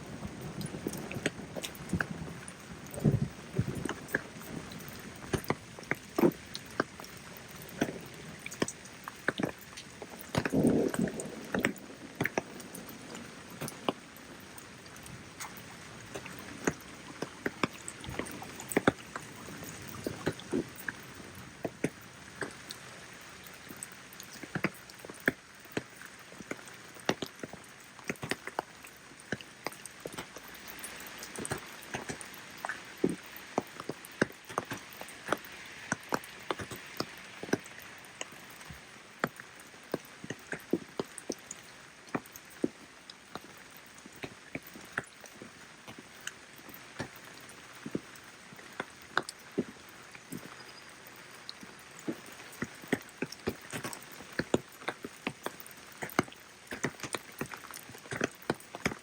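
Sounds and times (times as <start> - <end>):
rain falling: 0.0 - 59.0
drops ticking on hard surfaces: 0.2 - 22.8, 23.4 - 59.0.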